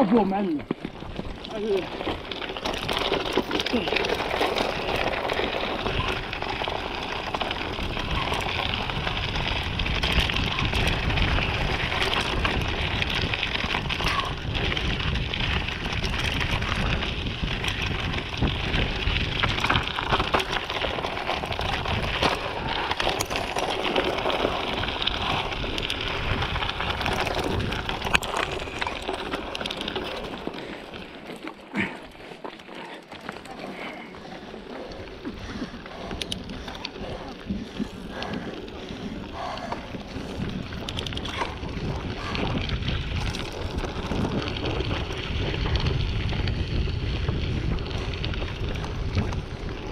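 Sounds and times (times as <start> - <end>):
bike rattling and clicking: 0.0 - 49.9
tyres crunching over gravel: 0.0 - 49.9.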